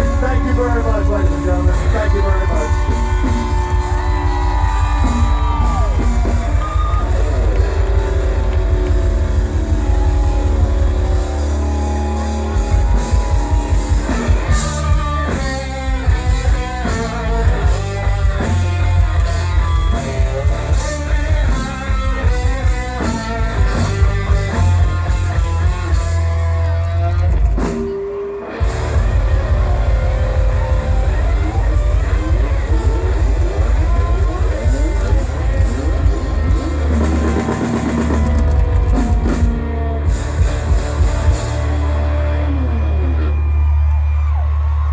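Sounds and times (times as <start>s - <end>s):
country-rock band playing: 0.0s - 44.9s.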